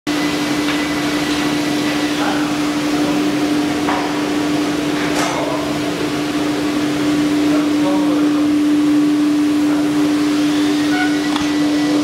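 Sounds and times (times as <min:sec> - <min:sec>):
machine electric hum: 0:00.1 - 0:12.0.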